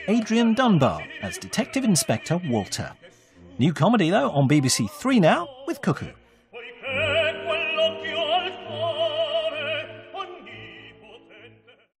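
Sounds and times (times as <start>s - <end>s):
held musical accompaniment: 0.0s - 11.6s
operatic singing with vibrato: 0.0s - 12.0s.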